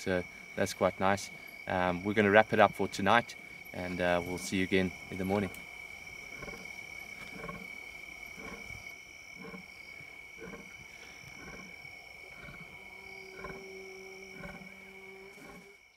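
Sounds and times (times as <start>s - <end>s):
crickets trilling: 0.0s - 15.9s
frog calling: 0.0s - 15.9s.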